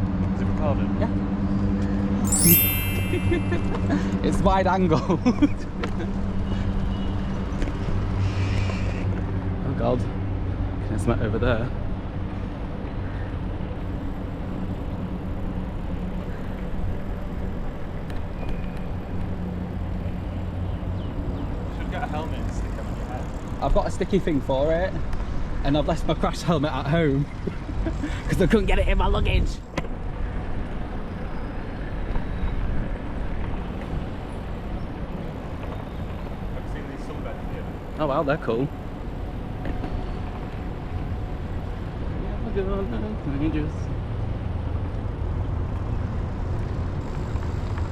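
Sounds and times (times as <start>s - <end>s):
road traffic hum: 3.8s - 47.9s.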